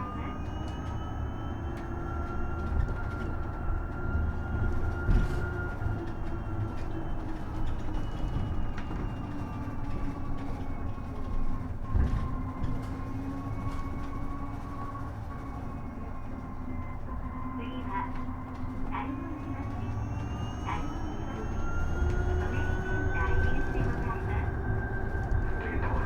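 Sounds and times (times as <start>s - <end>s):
low road rumble: 0.0s - 26.0s.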